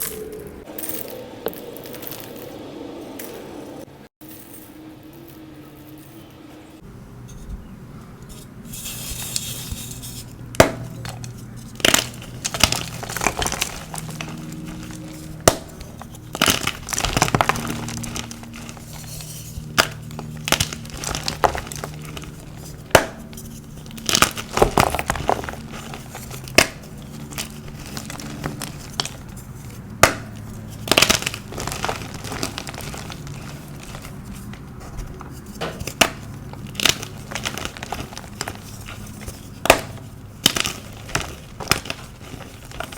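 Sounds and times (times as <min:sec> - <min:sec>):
chalk blocks crunching and cracking: 0:08.3 - 0:42.9.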